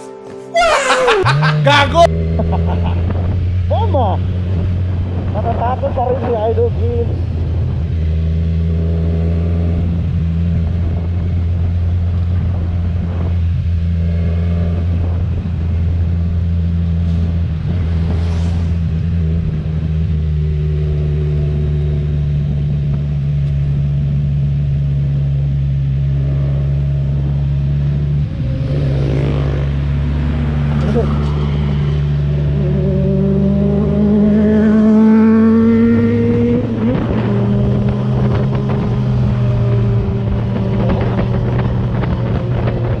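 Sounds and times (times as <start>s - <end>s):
motorcycle engine droning: 0.0s - 43.0s.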